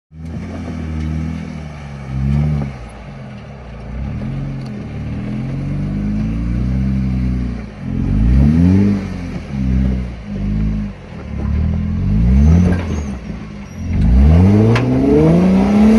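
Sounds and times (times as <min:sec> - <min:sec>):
vehicle engine revving: 0:00.1 - 0:15.9.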